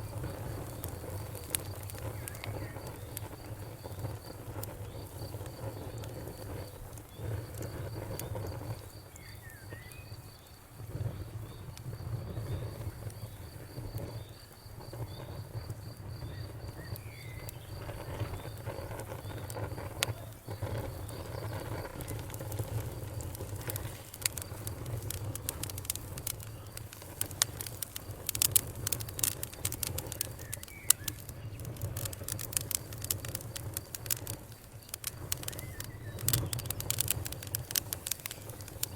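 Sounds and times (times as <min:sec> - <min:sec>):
low rumble of flames: 0:00.0 - 0:38.9
wood fire crackling: 0:00.0 - 0:38.9.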